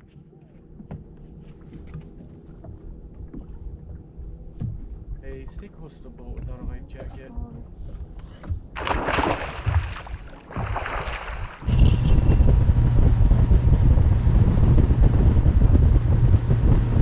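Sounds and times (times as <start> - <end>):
wind buffeting microphone: 2.2 - 17.0.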